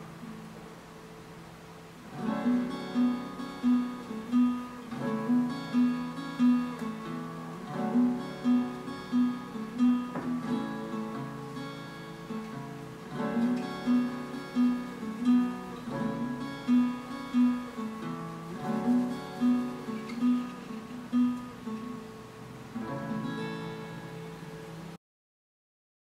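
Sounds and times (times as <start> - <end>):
acoustic guitar strumming: 0.0 - 0.8, 1.8 - 25.0.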